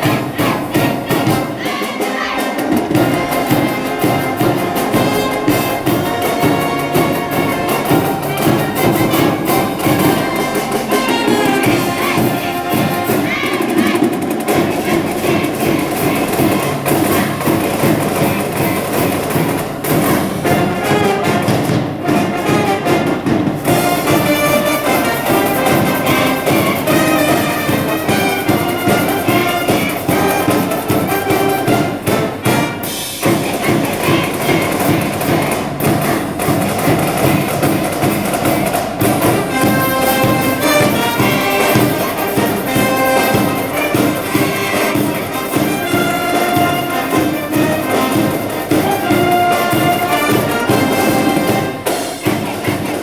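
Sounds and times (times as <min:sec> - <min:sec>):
brass band playing: 0:00.0 - 0:53.0
drum beats: 0:00.0 - 0:53.0.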